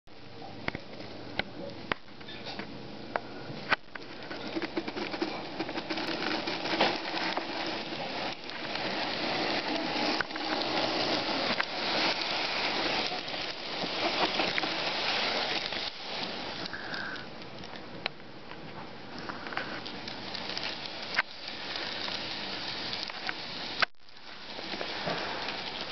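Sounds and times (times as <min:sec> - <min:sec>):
model train wheels clicking: 0:01.4 - 0:25.9.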